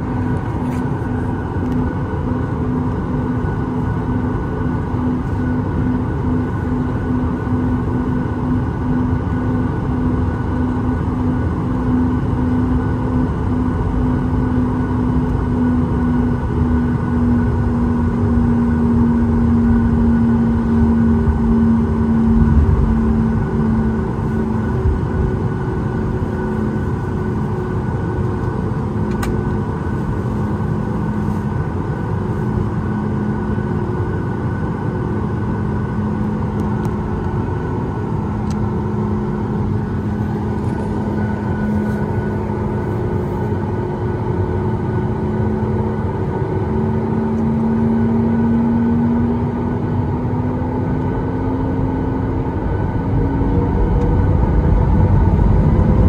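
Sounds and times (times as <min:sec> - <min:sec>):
jet engine roar in cabin: 0:00.0 - 0:56.0.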